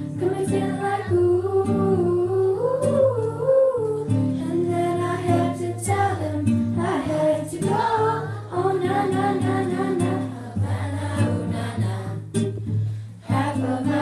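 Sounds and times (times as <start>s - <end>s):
girls singing pop song: 0.0s - 14.0s
strummed acoustic guitar: 0.0s - 14.0s.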